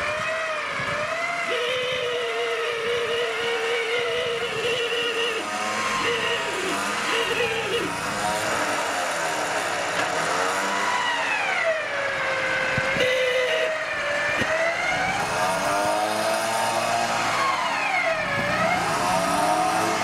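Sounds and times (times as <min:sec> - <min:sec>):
suv engine revving hard: 0:03.3 - 0:20.0.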